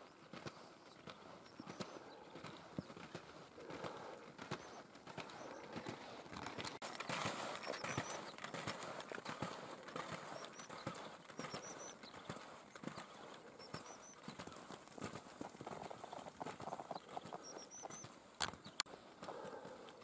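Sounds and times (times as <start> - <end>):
skis crunching on snow: 0.0 - 20.0.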